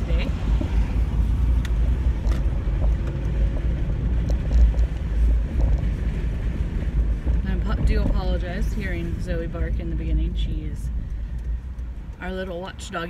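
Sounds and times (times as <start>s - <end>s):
car interior road and engine rumble: 0.0s - 13.0s.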